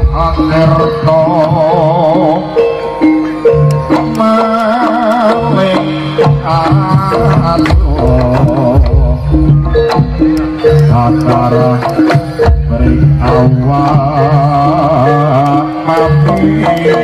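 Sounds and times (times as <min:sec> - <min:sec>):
wavering melody with vibrato: 0:00.0 - 0:17.0
drum strokes: 0:03.0 - 0:17.0.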